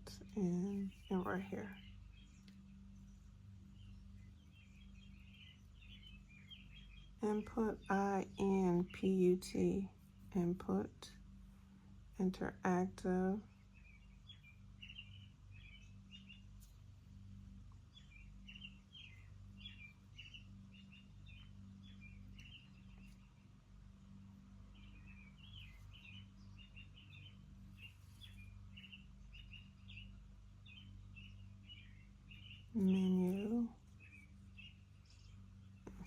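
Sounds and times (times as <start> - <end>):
faint birdsong chirps: 0.0 - 36.0
low steady hum: 0.0 - 36.0.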